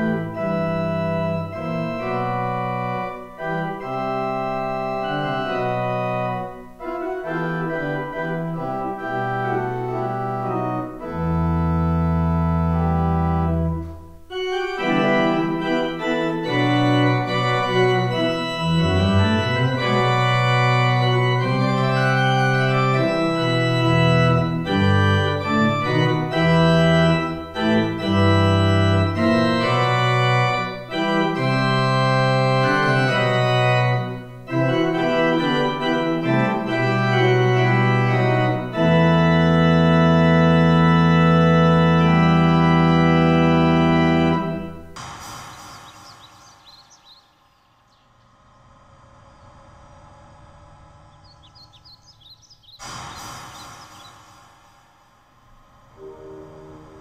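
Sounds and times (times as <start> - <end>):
organ-like keyboard chords: 0.0 - 54.5, 55.5 - 57.0.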